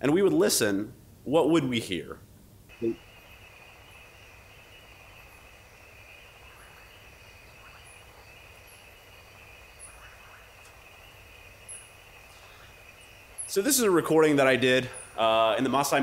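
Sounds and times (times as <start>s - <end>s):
faint low frog calls: 2.7s - 16.0s
high-pitched insect chorus: 2.7s - 16.0s.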